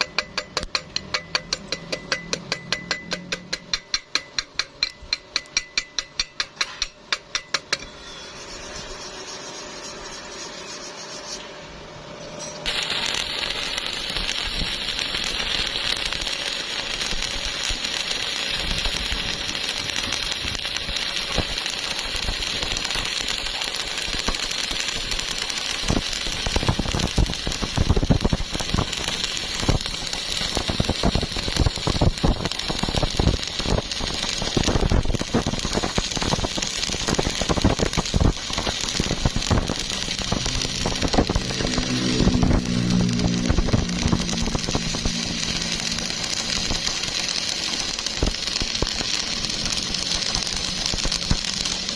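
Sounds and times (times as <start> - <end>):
arc welding crackling hiss: 0.0 - 11.8, 12.5 - 51.9.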